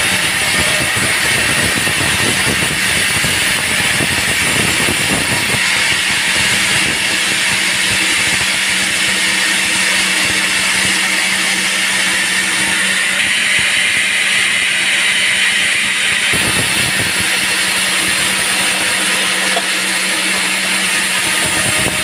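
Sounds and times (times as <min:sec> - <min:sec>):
band saw cutting log: 0:00.0 - 0:22.0
constant low hum: 0:00.0 - 0:22.0.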